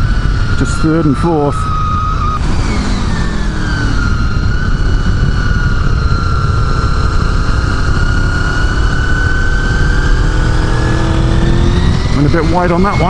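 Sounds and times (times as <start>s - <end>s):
motorcycle engine at speed: 0.0s - 13.0s
wind rush on microphone: 0.0s - 13.0s.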